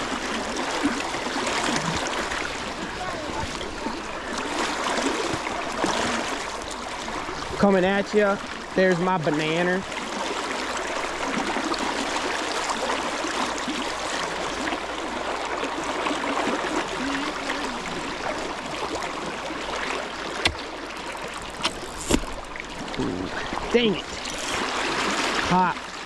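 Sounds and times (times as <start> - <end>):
river current rushing: 0.0 - 26.0.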